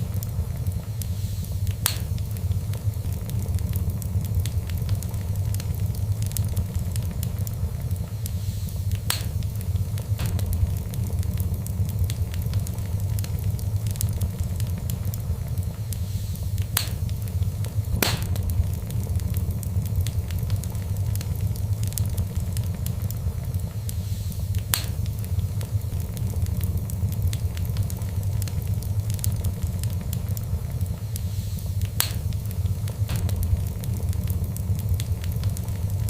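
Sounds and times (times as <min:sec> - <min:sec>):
fire crackling and popping: 0:00.0 - 0:36.0
steady low rumble: 0:00.0 - 0:36.0.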